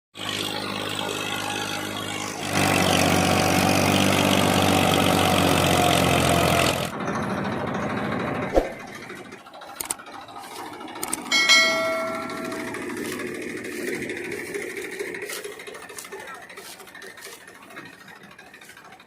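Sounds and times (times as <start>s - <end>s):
tractor diesel engine running: 0.2s - 19.0s.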